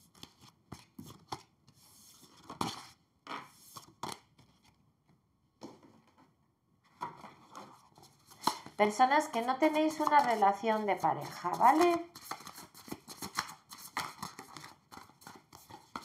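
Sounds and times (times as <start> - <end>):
cards sliding and tapping: 0.1 - 4.8, 7.0 - 16.0.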